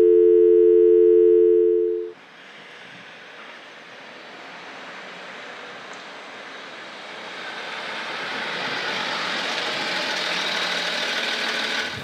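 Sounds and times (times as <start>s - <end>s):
car approaching: 2.0s - 12.0s.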